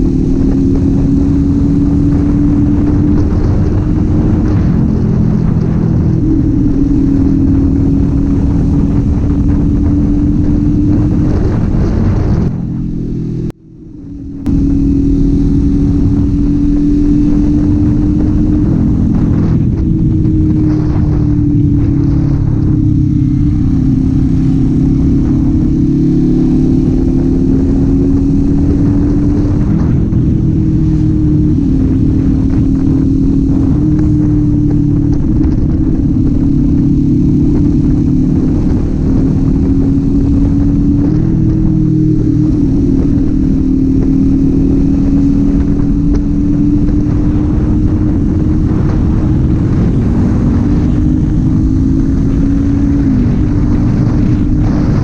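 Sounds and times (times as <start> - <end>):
motorcycle engine droning: 0.0 - 55.0
wind and road noise: 0.0 - 55.0.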